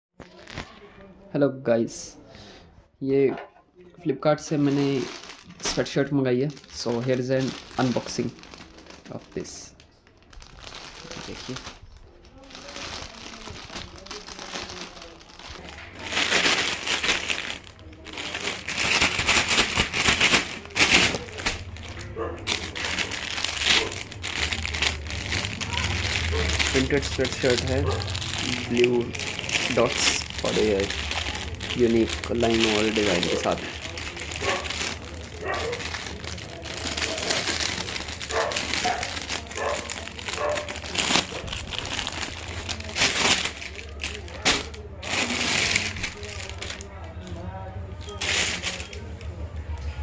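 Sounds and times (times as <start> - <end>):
packaging crinkling and rustling: 0.2 - 0.8, 4.4 - 50.0.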